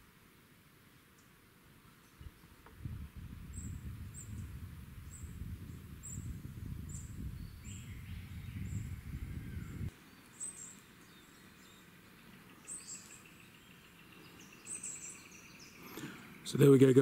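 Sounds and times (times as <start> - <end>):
birds chirping: 1.1 - 17.0.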